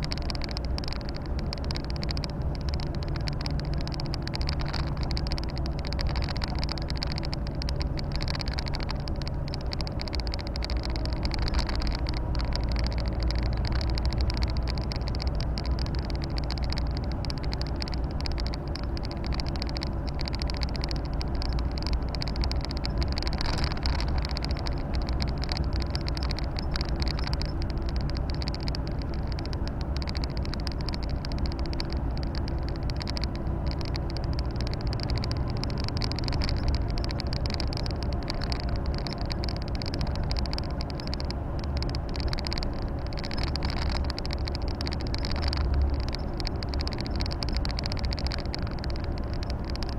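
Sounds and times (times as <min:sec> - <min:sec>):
diesel truck engine running: 0:00.0 - 0:49.9
tyre and road noise: 0:00.0 - 0:49.9.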